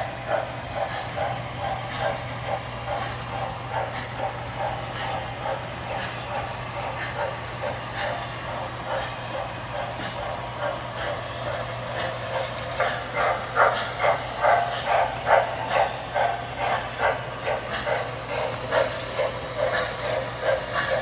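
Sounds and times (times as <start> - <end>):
model trains running: 0.0 - 21.0.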